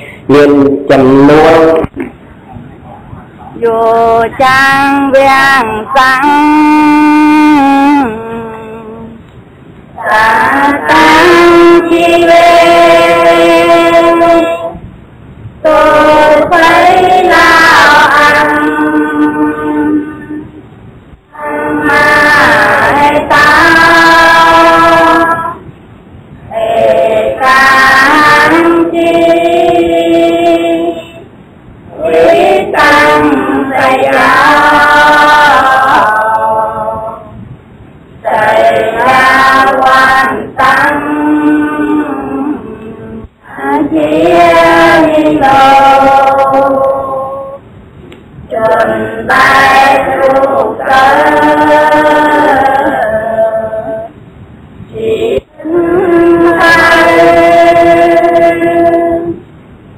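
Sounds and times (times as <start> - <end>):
chant with long held notes: 0.0 - 2.2, 3.5 - 59.9.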